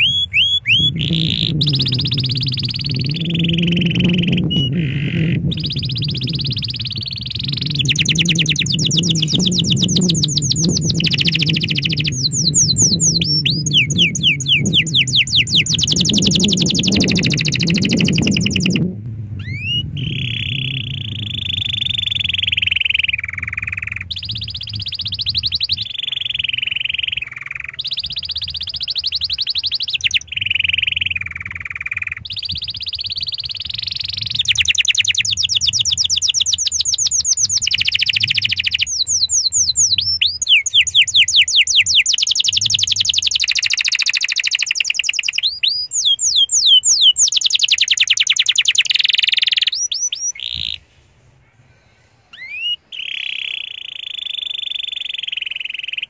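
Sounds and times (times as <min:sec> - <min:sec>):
low steady rumble: 0:00.0 - 0:43.4, 0:50.2 - 0:53.0
canary singing trills: 0:00.0 - 0:51.0, 0:52.3 - 0:56.0.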